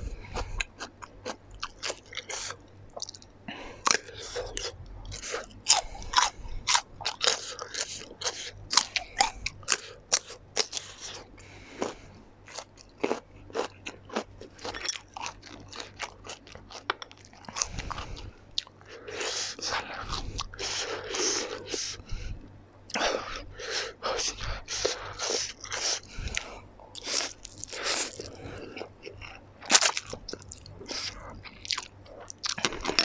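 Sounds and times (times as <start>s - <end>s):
crunchy chewing of cucumber: 0.0s - 3.2s, 3.8s - 22.0s, 24.3s - 33.0s.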